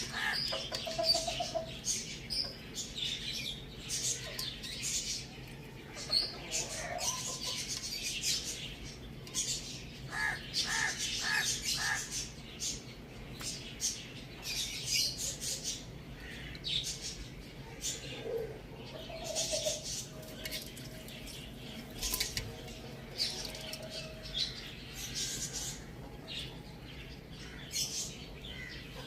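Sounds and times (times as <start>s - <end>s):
birds chirping and chattering: 0.0s - 29.0s.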